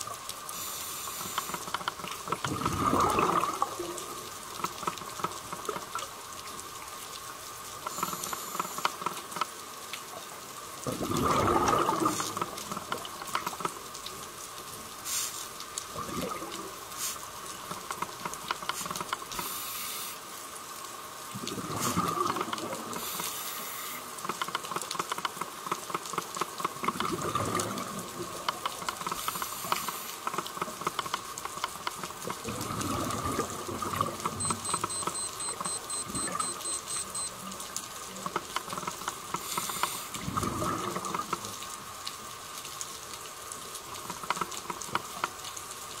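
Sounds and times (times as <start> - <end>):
water crackling with small clicks: 0.0 - 46.0
water rushing: 0.0 - 46.0.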